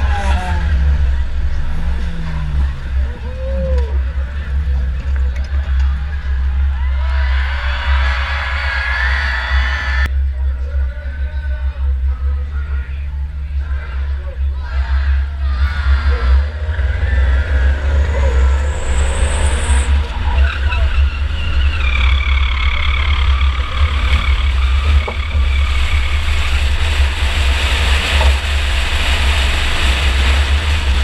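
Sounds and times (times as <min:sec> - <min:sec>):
tyres skidding: 0:00.0 - 0:10.1, 0:13.4 - 0:31.0
low rumble: 0:00.0 - 0:31.0
race car engine running hard: 0:00.0 - 0:31.0
wavering high whine: 0:00.0 - 0:31.0.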